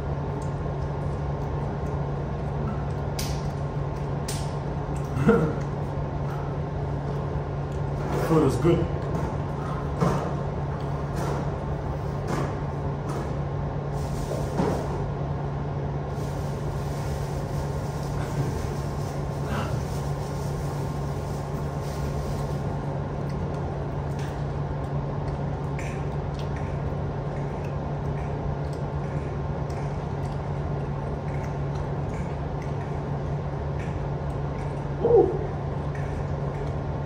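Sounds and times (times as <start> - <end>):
eating sounds: 0.0 - 37.0
steady low background hum: 0.0 - 37.0.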